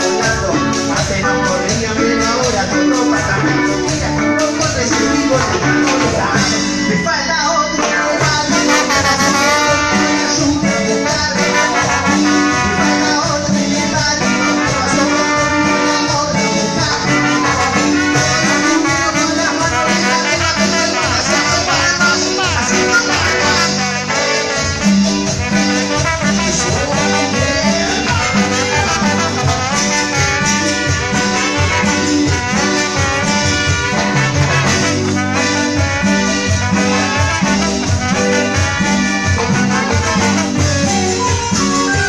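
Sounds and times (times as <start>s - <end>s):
brass section melody: 0.0s - 42.0s
latin dance band playing: 0.0s - 42.0s.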